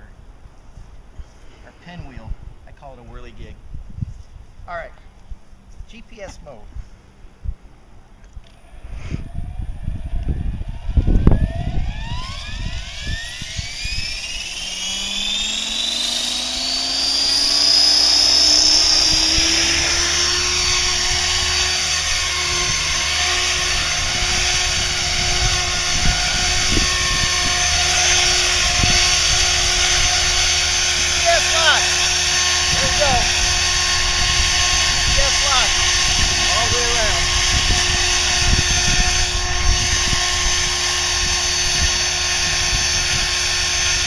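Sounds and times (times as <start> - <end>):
wind buffeting microphone: 0.0 - 5.6, 6.5 - 44.0
rotor hum: 6.6 - 44.0
electric motor whine: 8.4 - 44.0.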